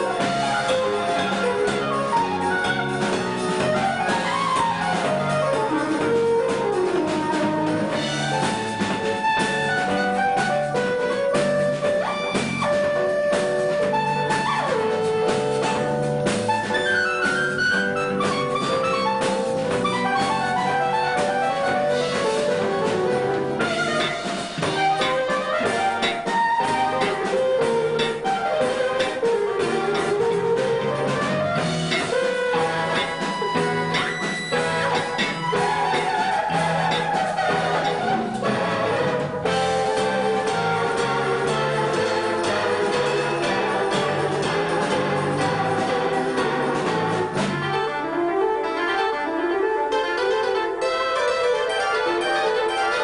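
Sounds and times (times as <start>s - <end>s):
live band playing instrumental: 0.0s - 53.0s.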